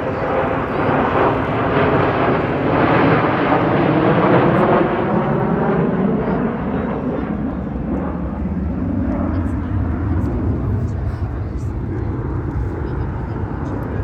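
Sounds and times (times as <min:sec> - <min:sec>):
fighter jet flying past: 0:00.0 - 0:14.0.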